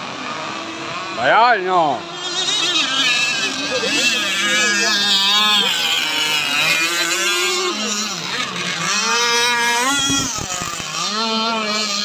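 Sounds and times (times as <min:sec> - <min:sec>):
rc powerboat engines whining: 0:00.0 - 0:12.0.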